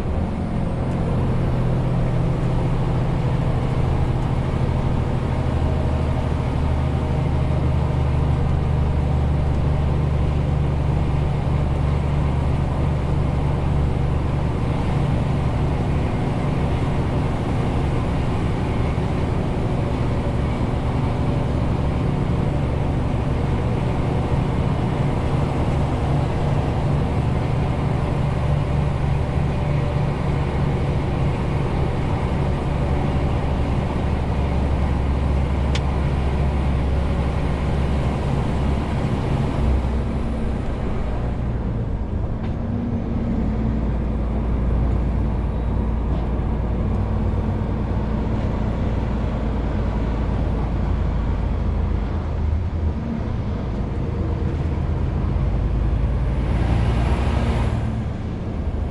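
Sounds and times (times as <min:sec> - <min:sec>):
truck diesel engine droning: 0:00.0 - 0:58.9.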